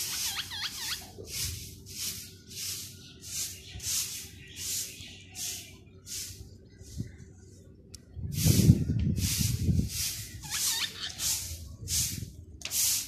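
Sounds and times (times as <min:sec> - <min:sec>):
birds chirping: 0:00.0 - 0:12.5
birds hissing: 0:00.0 - 0:13.0.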